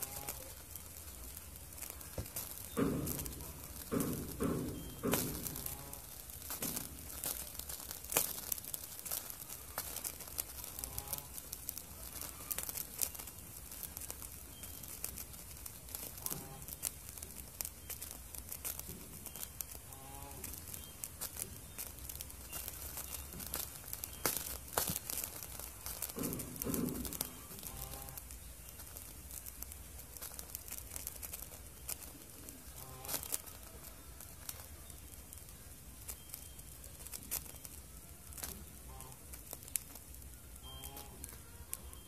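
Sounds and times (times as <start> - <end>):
alcohol stove burning: 0.0 - 42.0
crackles and ticks: 0.0 - 42.0.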